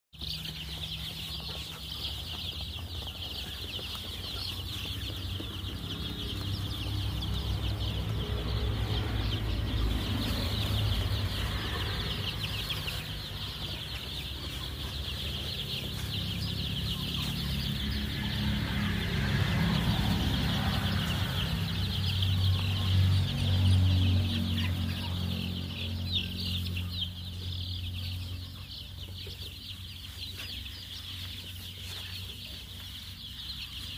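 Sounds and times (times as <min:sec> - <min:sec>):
chicks peeping: 0:00.2 - 0:33.9.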